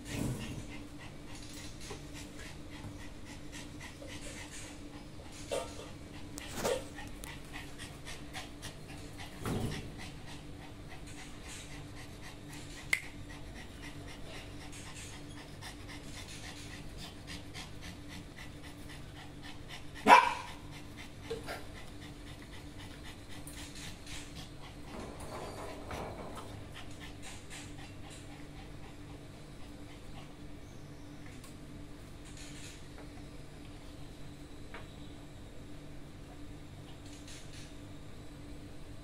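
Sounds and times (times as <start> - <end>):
small dogs panting: 0.0 - 31.4.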